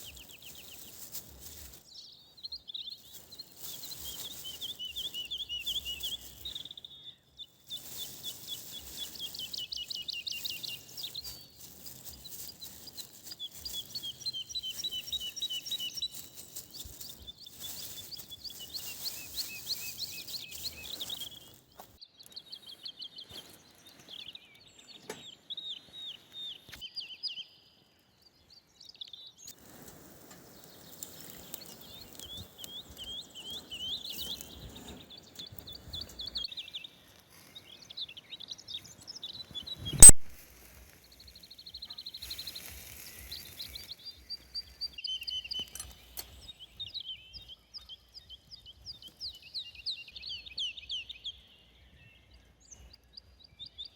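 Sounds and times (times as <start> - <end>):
songbirds chirping trills: 0.0 - 53.9.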